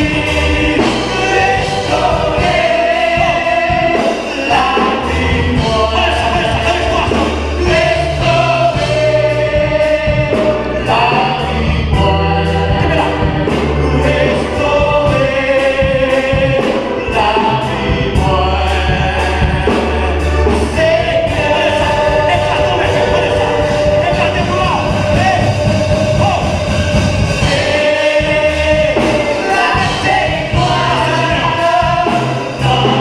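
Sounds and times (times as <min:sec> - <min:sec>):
band with steady beat: 0:00.0 - 0:33.0
choir singing gospel song: 0:00.0 - 0:33.0.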